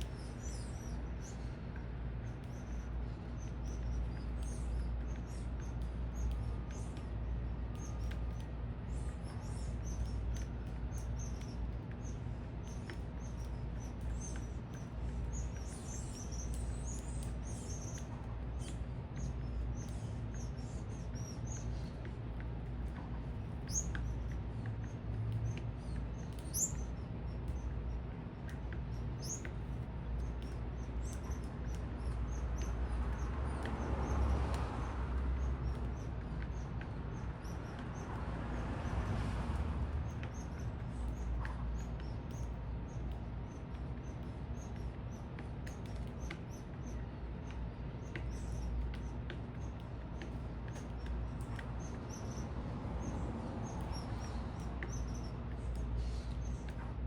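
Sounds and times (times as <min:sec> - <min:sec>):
low city rumble: 0:00.0 - 0:57.0
small birds chirping: 0:00.0 - 0:57.0.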